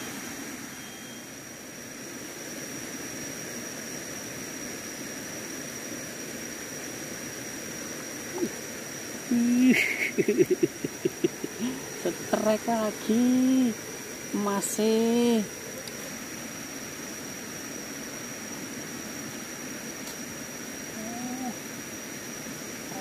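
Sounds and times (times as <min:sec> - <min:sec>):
constant high thin tone: 0:00.0 - 0:23.0
river hiss: 0:00.0 - 0:23.0.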